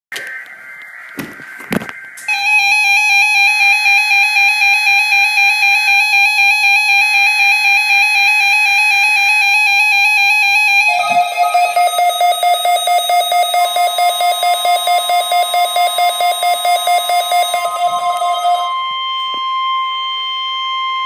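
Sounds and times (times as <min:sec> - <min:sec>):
electronic alarm tone: 0:00.2 - 0:21.0.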